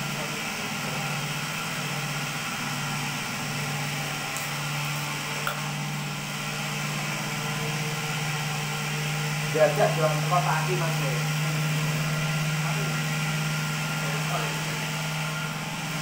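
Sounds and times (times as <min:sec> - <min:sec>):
cotton candy machine hum and hiss: 0:00.0 - 0:16.0.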